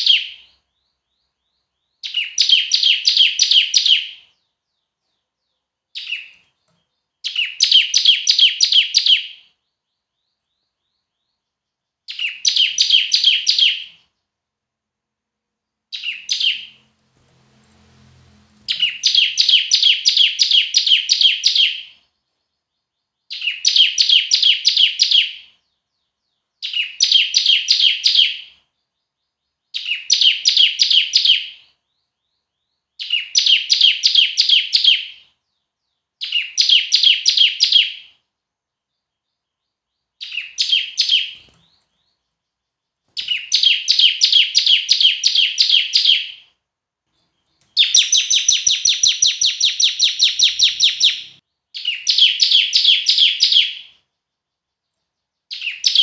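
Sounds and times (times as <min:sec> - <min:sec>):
bird singing high chirps: 0:00.0 - 0:14.3, 0:15.7 - 0:46.6, 0:47.2 - 0:56.0.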